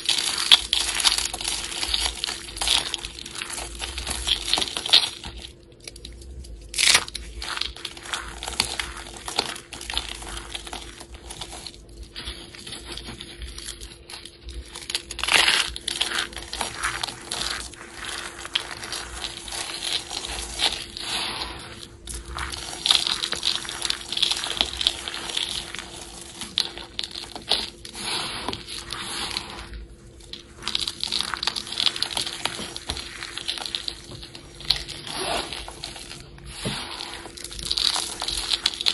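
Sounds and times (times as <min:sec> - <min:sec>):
soap flakes crunching in hands: 0:00.0 - 0:38.9.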